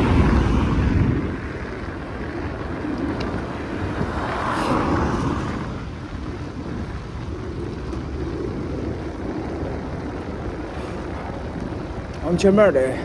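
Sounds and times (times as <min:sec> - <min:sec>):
bike tyres rolling on asphalt: 0:00.0 - 0:13.0.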